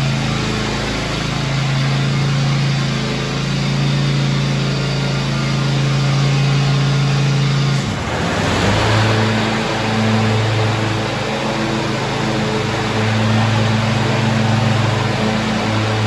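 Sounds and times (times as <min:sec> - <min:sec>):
mower engine running: 0:00.0 - 0:16.0.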